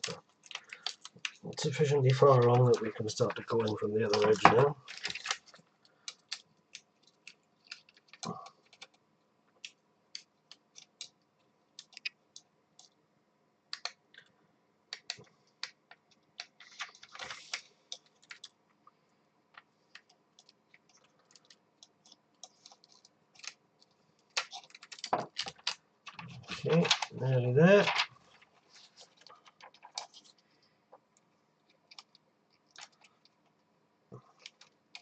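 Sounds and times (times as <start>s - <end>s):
small clicks and scratching: 0.0s - 13.0s, 13.7s - 14.3s, 14.9s - 18.8s, 19.5s - 35.0s.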